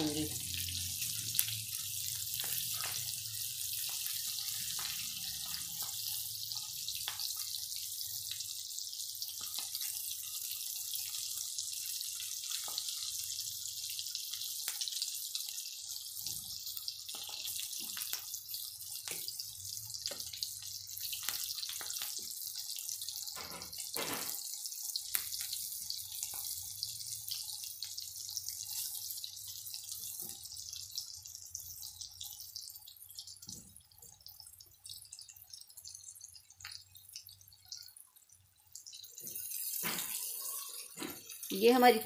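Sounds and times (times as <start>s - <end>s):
chillies sizzling in hot oil: 0.0s - 42.0s.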